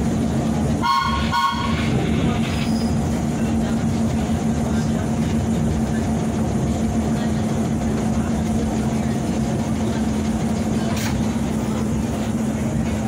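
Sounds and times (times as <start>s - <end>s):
constant hum: 0.0s - 13.0s
train wheels rumbling on rail: 0.0s - 13.0s.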